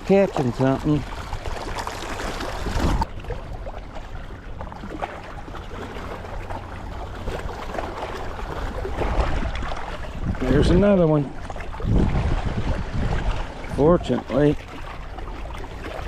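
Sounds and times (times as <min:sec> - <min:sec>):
wind buffeting microphone: 0:02.4 - 0:16.0.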